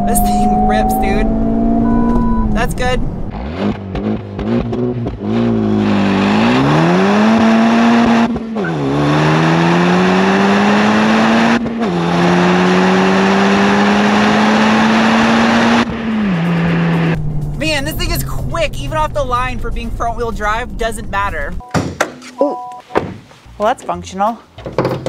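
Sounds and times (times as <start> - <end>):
car engine exhaust accelerating: 0.0 - 21.6.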